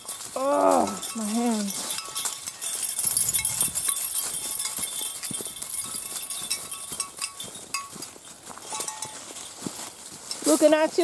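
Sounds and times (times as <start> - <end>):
footsteps on a trail: 0.0 - 11.0
light metallic jingling: 0.0 - 11.0.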